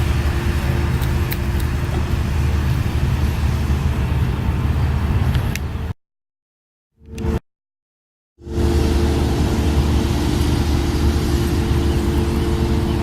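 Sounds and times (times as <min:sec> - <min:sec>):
engine hum: 0:00.0 - 0:06.0, 0:07.0 - 0:07.4, 0:08.4 - 0:13.0
road traffic rumble: 0:00.0 - 0:06.0, 0:08.4 - 0:13.0.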